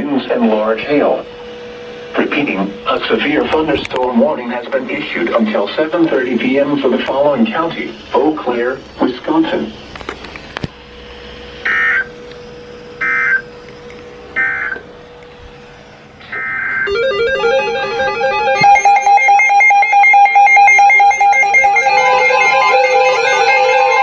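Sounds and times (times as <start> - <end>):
buzzy data tone bursts: 0.0 - 9.9, 10.8 - 15.2, 16.1 - 24.0.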